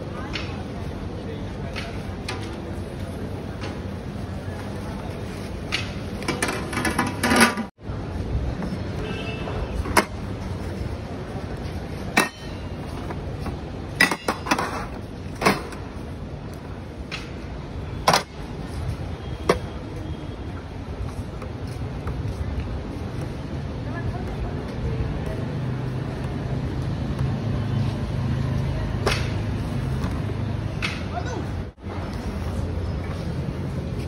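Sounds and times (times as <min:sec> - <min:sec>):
street noise hum: 0:00.0 - 0:34.0.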